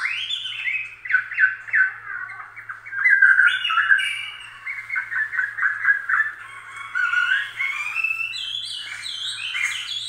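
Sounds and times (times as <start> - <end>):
faint low hum: 0.0 - 10.0
rapid high chirping calls: 0.0 - 10.0.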